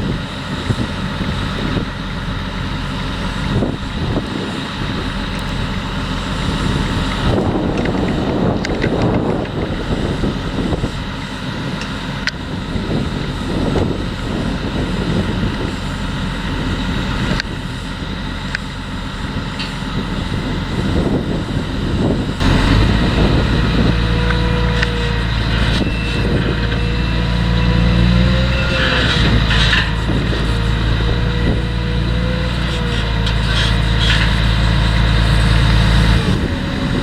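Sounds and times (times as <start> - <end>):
deep engine humming: 0.0 - 37.0
faint whine: 0.0 - 37.0
tractor and harvester engines: 0.0 - 37.0.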